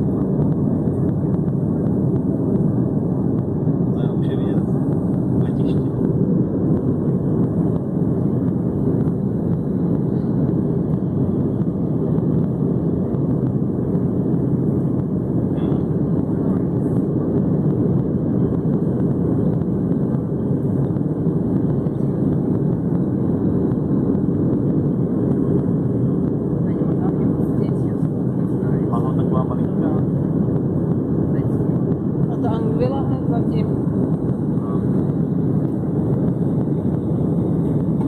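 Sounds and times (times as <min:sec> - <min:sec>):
airliner cabin engine noise: 0:00.0 - 0:38.0.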